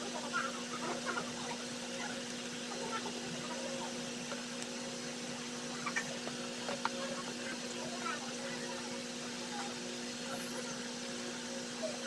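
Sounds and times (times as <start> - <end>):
two-pitch low hum: 0.0 - 12.0.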